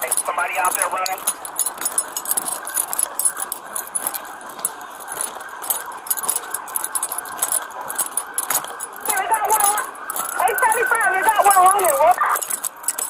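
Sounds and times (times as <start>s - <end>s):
footsteps: 0.0s - 13.0s
gear clicking and rattling: 0.0s - 13.0s
police sirens wailing: 0.0s - 13.0s.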